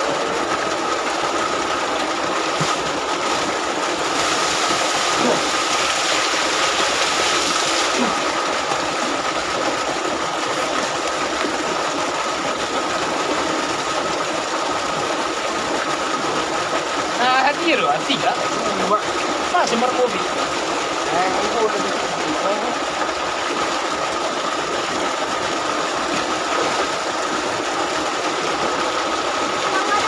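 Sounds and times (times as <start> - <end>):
water splashing in a shower: 0.0 - 30.0.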